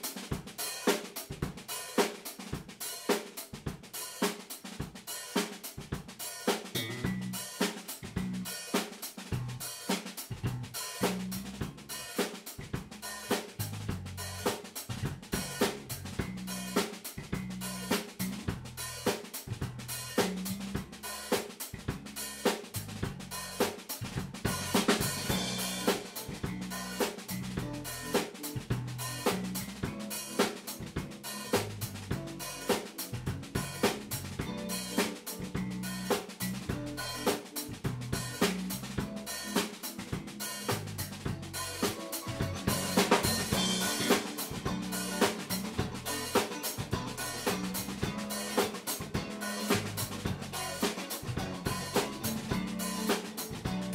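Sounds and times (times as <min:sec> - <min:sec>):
drum kit: 0:00.0 - 0:53.9
electric bass: 0:06.8 - 0:53.9.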